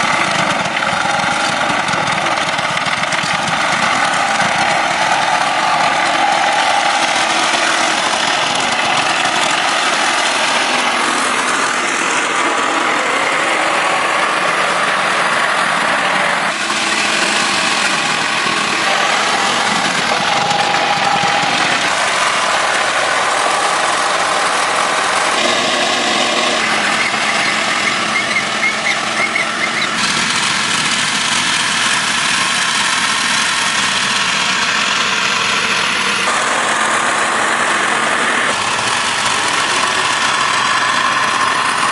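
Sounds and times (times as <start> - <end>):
motor running: 0.0 - 41.9.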